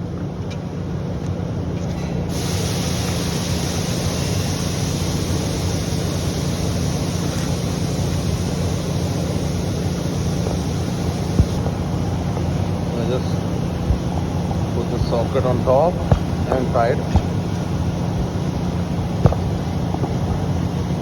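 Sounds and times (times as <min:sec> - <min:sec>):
low hum: 0:01.5 - 0:21.0.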